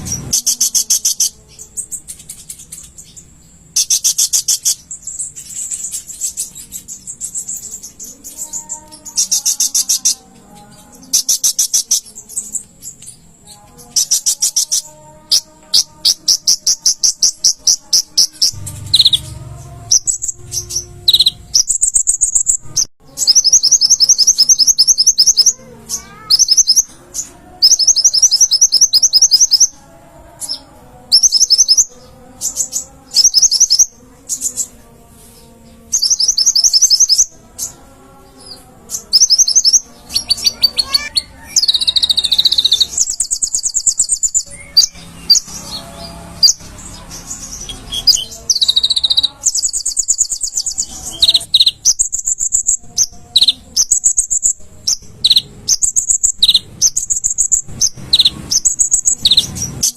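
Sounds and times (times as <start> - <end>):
sunbird singing rapid trills: 0.0 - 29.8, 30.4 - 34.8, 35.8 - 59.9.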